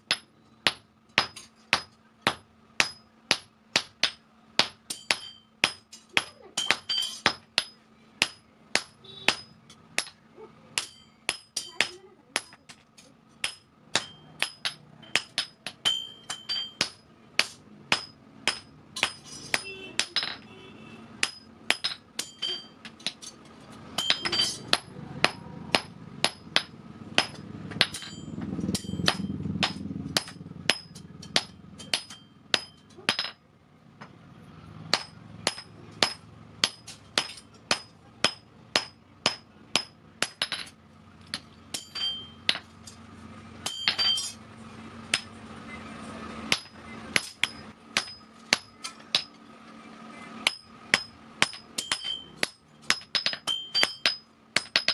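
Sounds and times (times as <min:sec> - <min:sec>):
hammer striking steel on anvil: 0:00.0 - 0:10.2, 0:10.8 - 0:20.5, 0:21.2 - 0:33.4, 0:34.9 - 0:43.0, 0:43.6 - 0:44.4, 0:46.5 - 0:49.4, 0:50.4 - 0:54.9.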